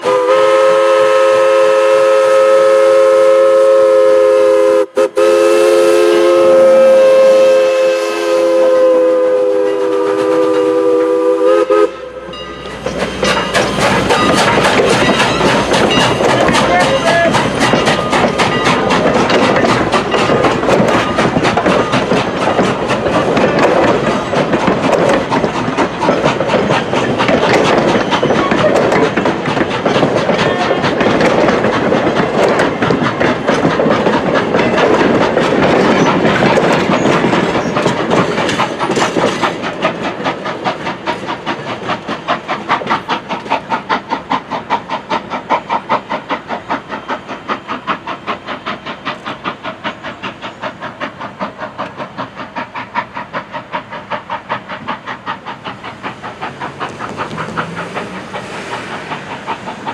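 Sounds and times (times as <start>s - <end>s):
steam locomotive chuffing: 0.0s - 59.9s
train wheels rumbling on rails: 0.0s - 59.9s.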